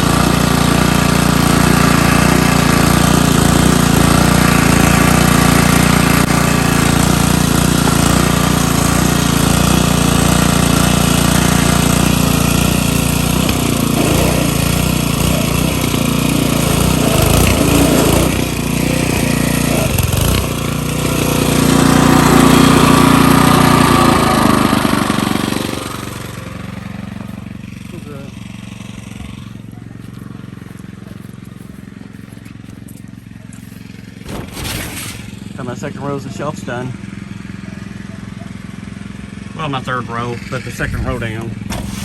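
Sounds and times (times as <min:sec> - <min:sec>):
small petrol engine running: 0:00.0 - 0:42.0.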